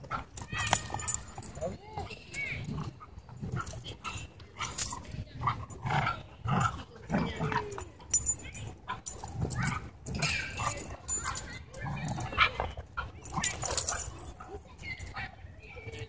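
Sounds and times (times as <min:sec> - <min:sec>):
dogs growling: 0:00.0 - 0:15.1.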